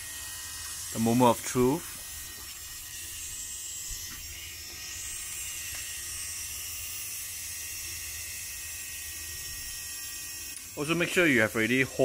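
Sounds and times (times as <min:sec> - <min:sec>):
needle cutter buzzing: 0:00.0 - 0:11.5.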